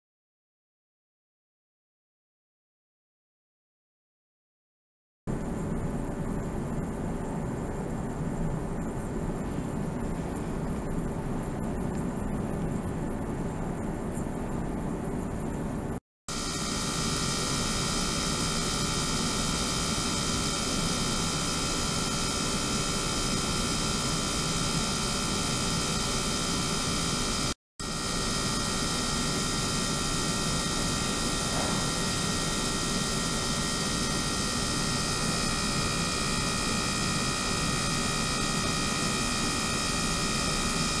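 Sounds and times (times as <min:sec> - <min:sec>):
pump whirring and hissing: 0:05.3 - 0:41.0.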